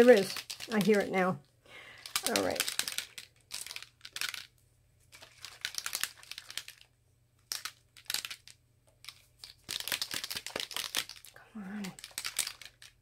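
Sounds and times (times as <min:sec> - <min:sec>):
mixing ball rattling in bottle: 0:00.0 - 0:01.4, 0:02.0 - 0:13.0.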